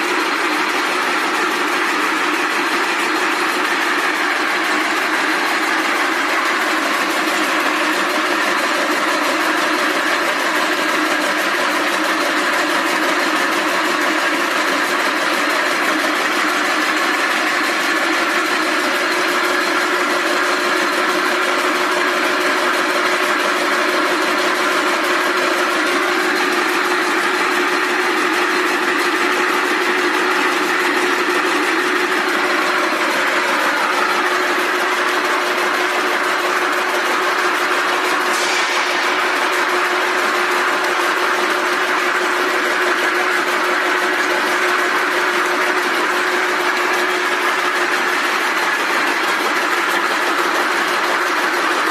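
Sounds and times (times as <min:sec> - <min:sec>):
rope braiding machine running: 0:00.0 - 0:51.9.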